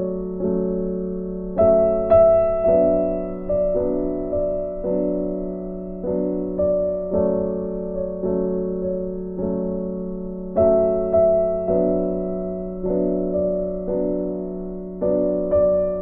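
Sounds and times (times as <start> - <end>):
slow electric piano music: 0.0 - 16.0.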